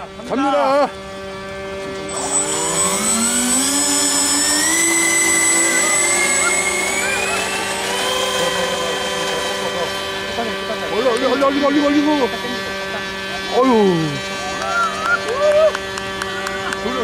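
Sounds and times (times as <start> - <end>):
model jet engines whining: 0.0 - 17.0.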